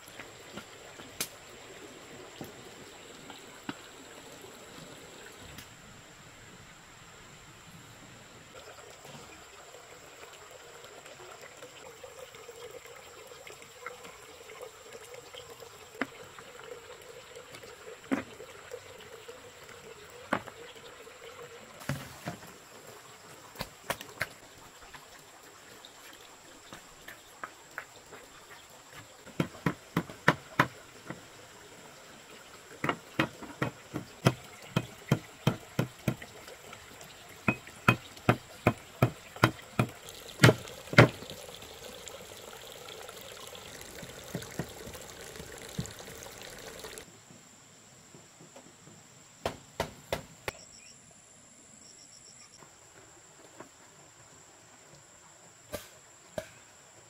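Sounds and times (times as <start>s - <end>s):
water splashing and trickling: 0.0s - 47.1s.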